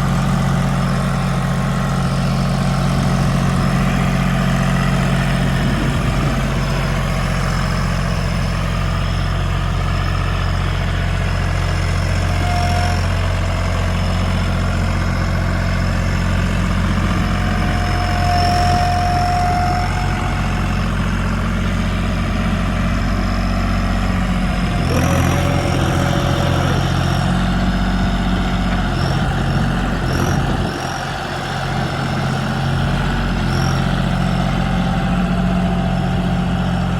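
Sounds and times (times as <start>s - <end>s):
diesel tractor engine idling: 0.0s - 36.9s.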